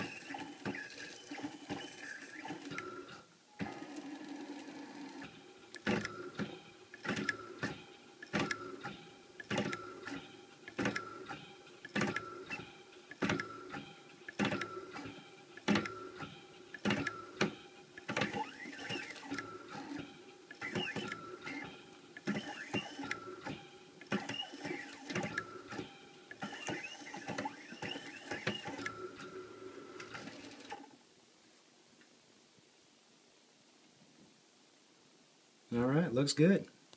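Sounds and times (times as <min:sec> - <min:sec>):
stepper motors whining: 0:00.0 - 0:30.8.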